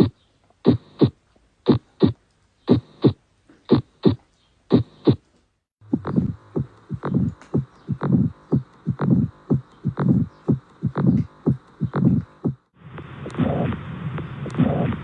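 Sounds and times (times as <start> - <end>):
heartbeat thumps: 0.0 - 5.2, 5.8 - 15.0
irregular heartbeat: 0.0 - 5.2, 5.8 - 15.0
continuous hum: 0.0 - 15.0.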